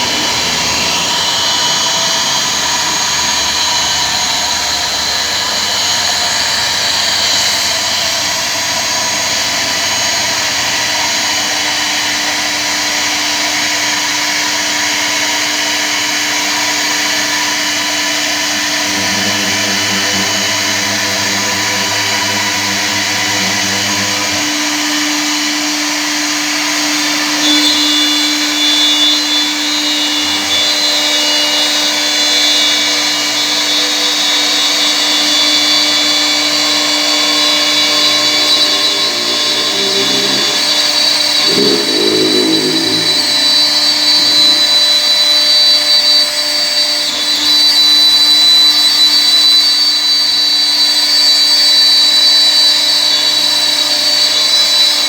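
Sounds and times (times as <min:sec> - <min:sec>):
bit routing into wood: 0:00.0 - 0:48.2
cnc router spindle whining: 0:00.0 - 0:55.0.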